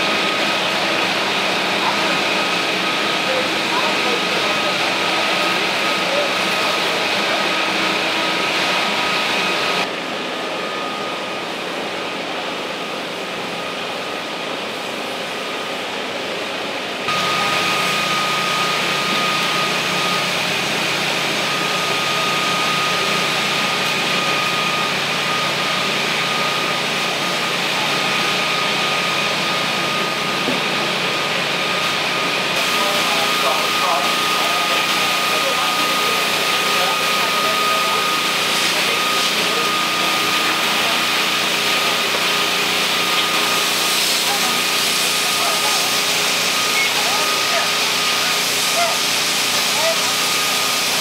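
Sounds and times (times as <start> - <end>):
high steady whine: 0.0 - 51.0.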